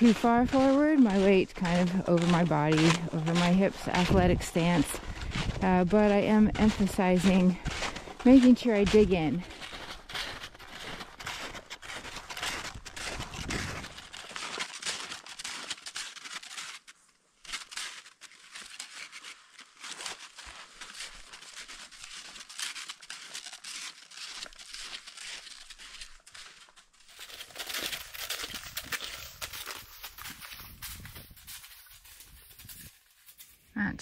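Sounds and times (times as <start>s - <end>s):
snowshoes crunching in snow: 0.0s - 34.0s.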